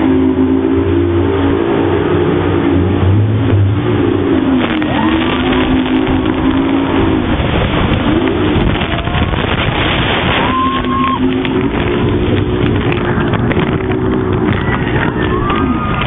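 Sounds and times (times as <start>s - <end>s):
boat motor running: 0.0s - 16.0s
water rushing: 0.0s - 16.0s
wind noise: 1.4s - 16.0s.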